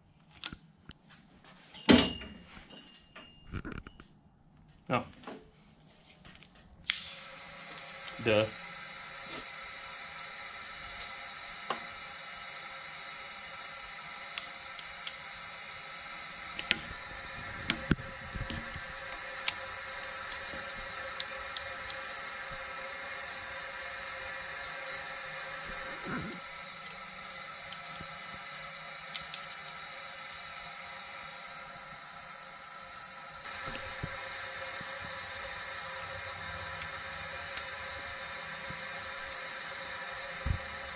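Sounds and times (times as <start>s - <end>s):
shop background hiss: 6.9s - 40.9s.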